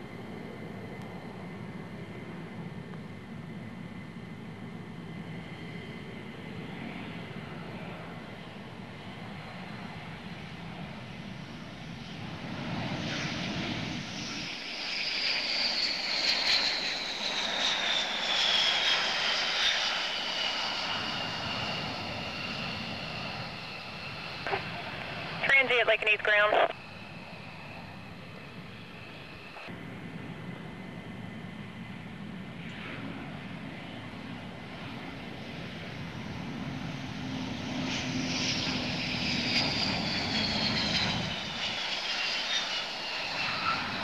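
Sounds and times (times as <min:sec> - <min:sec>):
distant fighter jet noise: 0:00.0 - 0:44.0
jet engine whine falling in pitch: 0:00.0 - 0:44.0.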